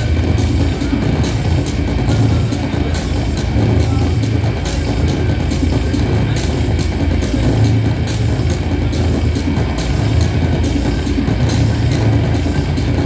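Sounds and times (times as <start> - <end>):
loud dense low drone: 0.0 - 13.0.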